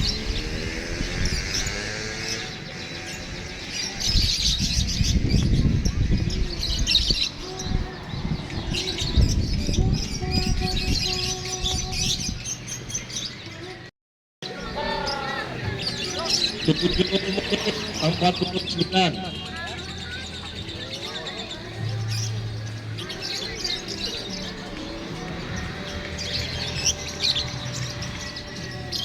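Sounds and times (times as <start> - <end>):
murmur of crowd voices: 0.0 - 29.0
songbirds chirping and trilling: 0.0 - 29.0.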